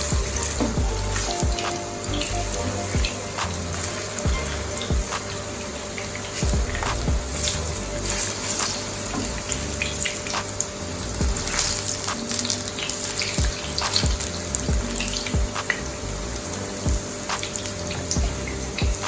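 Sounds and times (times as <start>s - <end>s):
food frying in hot oil: 2.5s - 19.0s.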